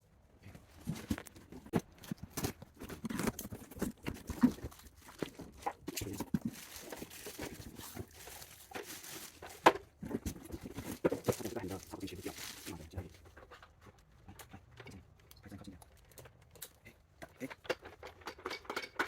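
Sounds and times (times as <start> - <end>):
objects being handled: 0.4 - 19.0.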